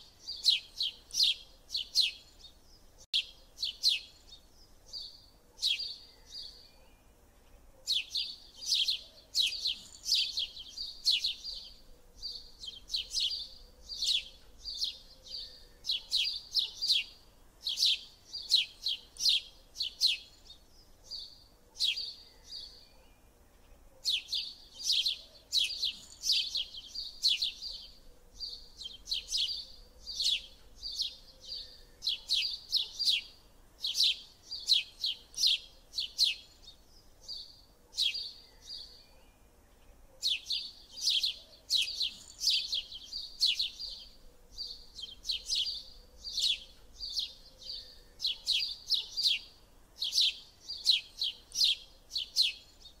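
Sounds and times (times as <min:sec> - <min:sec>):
small bird chirping: 0:00.0 - 0:53.0.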